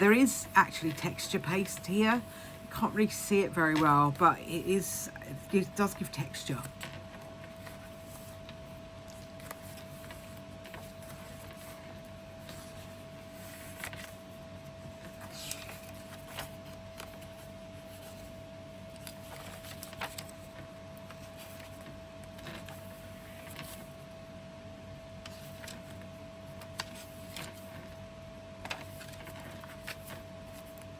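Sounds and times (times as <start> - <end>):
faint hum: 0.0 - 30.9
paper rustling: 3.6 - 24.0, 25.2 - 28.0, 28.6 - 30.9.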